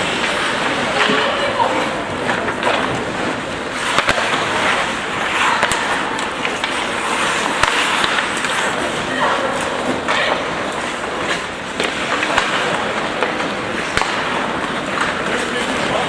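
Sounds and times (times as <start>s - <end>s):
arena background noise: 0.0s - 16.0s
hockey stick hitting puck: 0.0s - 16.0s
skates scraping on ice: 0.0s - 16.0s.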